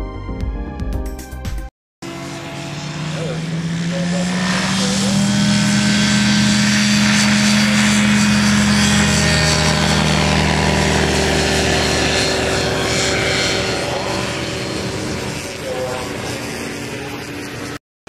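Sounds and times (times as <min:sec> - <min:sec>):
aircraft engine at full power: 0:02.0 - 0:17.8
propeller buzzing: 0:02.0 - 0:17.8.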